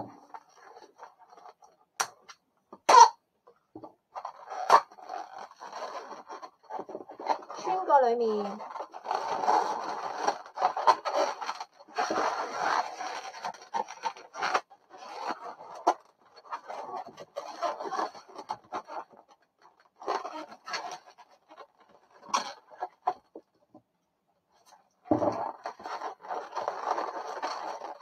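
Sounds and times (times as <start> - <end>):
balloons rubbing and scraping: 0.0 - 1.8, 4.1 - 23.3, 24.6 - 28.0.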